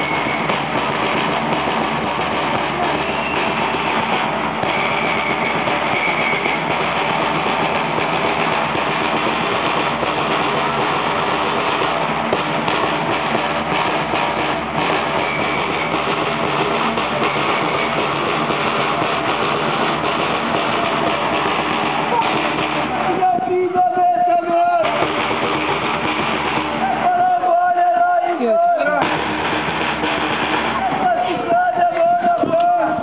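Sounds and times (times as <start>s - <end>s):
drums beating: 0.0s - 33.0s.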